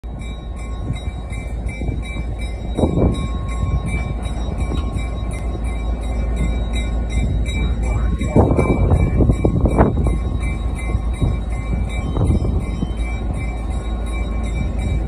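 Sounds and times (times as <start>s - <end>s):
train cars rumbling and rattling: 0.0s - 15.0s.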